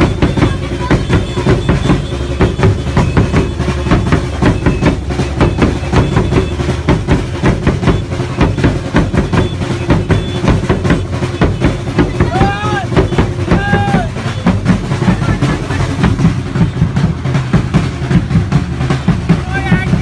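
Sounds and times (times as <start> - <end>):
fast drum beat: 0.0 - 20.0
motorcycle engines running: 0.0 - 20.0.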